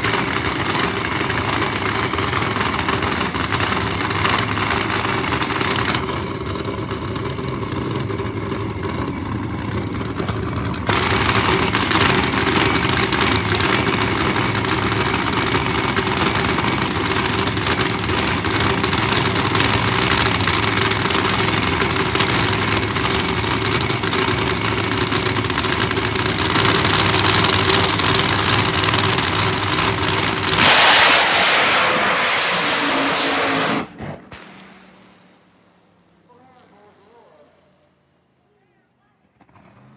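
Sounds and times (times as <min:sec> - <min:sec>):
drag racing engines idling: 0:00.0 - 0:34.0, 0:34.9 - 0:39.9.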